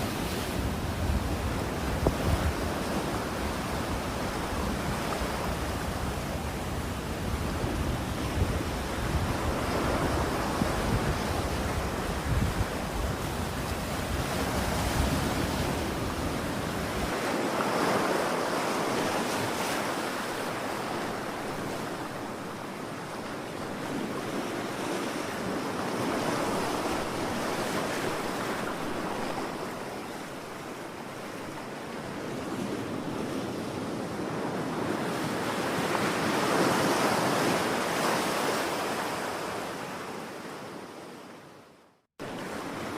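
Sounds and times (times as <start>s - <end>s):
waves breaking ashore: 0.0s - 41.5s, 42.2s - 42.9s.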